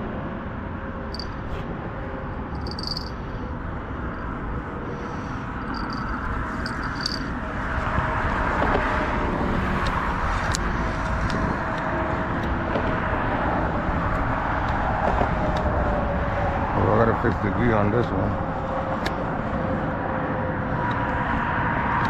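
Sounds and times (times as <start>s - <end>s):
road traffic rushing: 0.0s - 22.0s.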